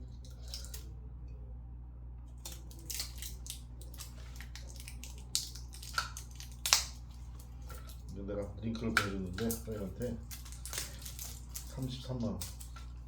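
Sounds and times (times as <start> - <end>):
steady low hum: 0.0 - 13.0
packaging crinkling: 2.4 - 13.0.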